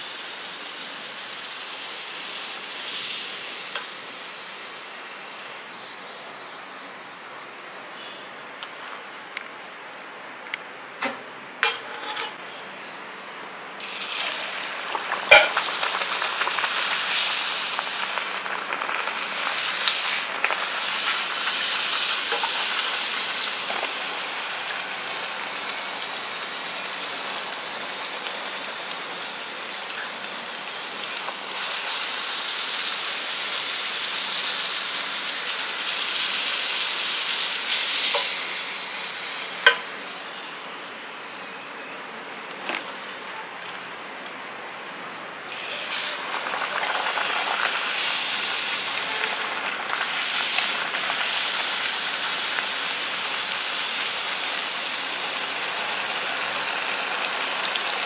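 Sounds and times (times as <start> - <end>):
fritter sizzling in hot oil: 0.0 - 6.0, 11.6 - 12.4, 13.8 - 41.6, 45.5 - 58.0.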